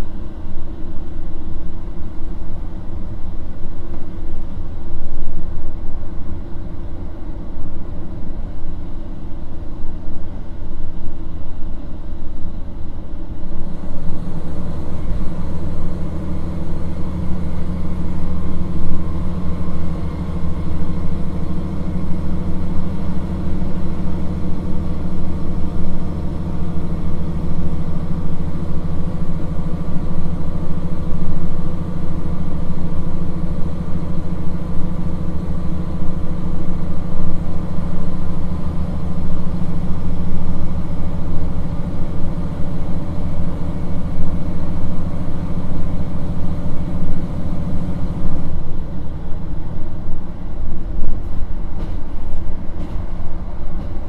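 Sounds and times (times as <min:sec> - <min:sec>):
diesel engine droning: 0:00.0 - 0:54.0
railcar running rumble: 0:00.0 - 0:54.0.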